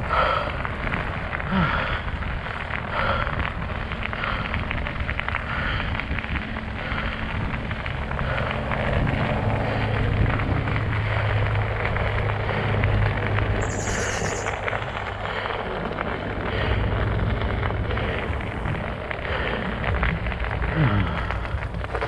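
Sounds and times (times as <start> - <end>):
low steady hum: 0.0 - 22.0
tires crunching over snow and ice: 0.0 - 22.0
wind on microphone: 0.0 - 22.0.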